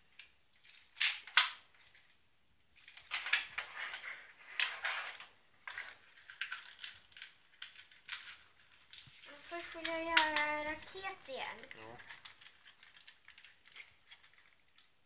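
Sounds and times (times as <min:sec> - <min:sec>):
plastic toy parts clicking and clattering: 0:00.1 - 0:02.2, 0:02.8 - 0:15.0
rustling: 0:01.6 - 0:15.0.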